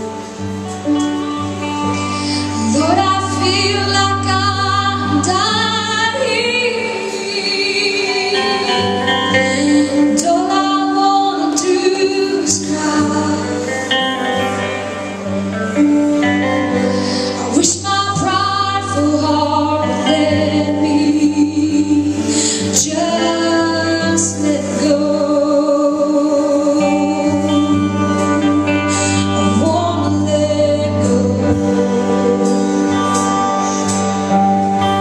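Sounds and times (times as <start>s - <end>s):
sustained instrumental chords: 0.0s - 35.0s.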